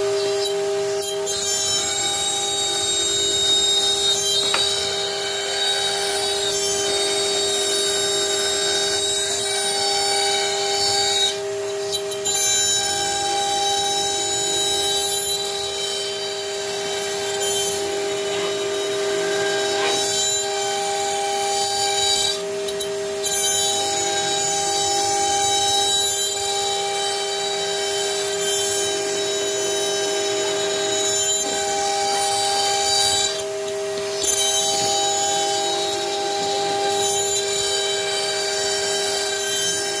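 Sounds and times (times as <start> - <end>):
router spindle whine: 0.0 - 40.0.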